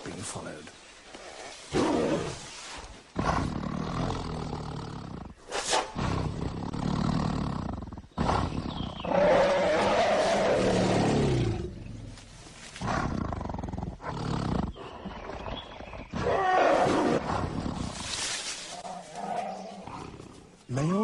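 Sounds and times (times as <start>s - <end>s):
tigers snarling and roaring: 1.1s - 20.7s.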